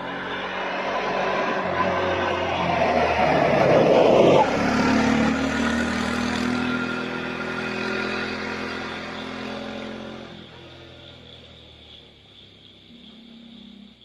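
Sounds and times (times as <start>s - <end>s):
auto-rickshaw engine pulling away: 0.0s - 12.6s.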